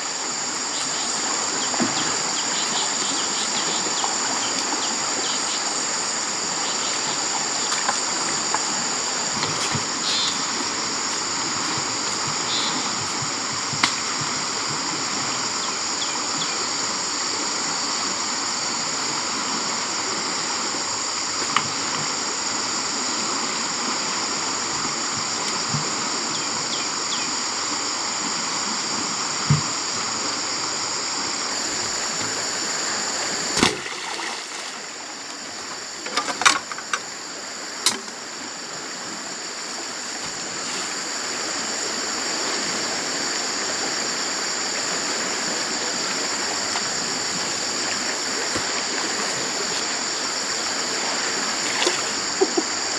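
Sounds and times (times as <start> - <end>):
flowing river water: 0.0 - 52.9
insects droning: 0.0 - 52.9.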